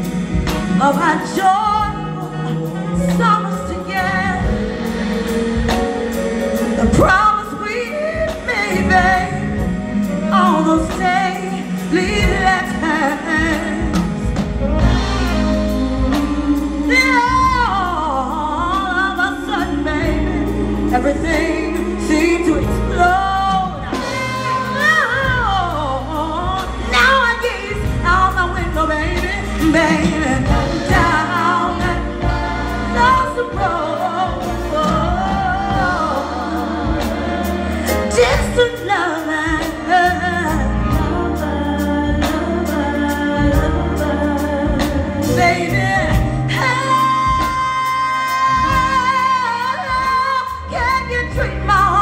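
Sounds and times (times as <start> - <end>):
bass guitar: 0.0 - 52.0
drums: 0.0 - 52.0
woman singing: 0.0 - 52.0.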